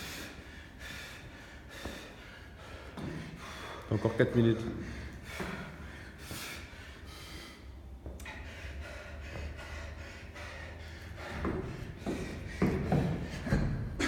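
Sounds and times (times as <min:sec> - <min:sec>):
man breathing hard: 0:00.0 - 0:14.0.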